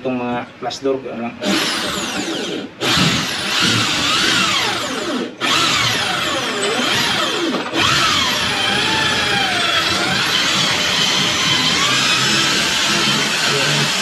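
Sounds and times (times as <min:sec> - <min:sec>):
electric drill boring into wood: 0:01.4 - 0:14.0.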